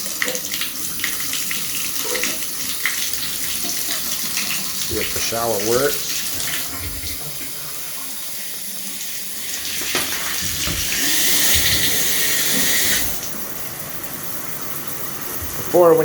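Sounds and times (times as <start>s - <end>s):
water running in bathtub: 0.0s - 16.0s.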